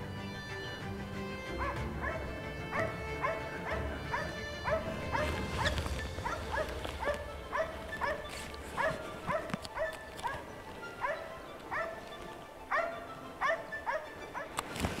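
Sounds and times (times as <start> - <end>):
dog barking: 1.6 - 12.0, 12.7 - 14.6.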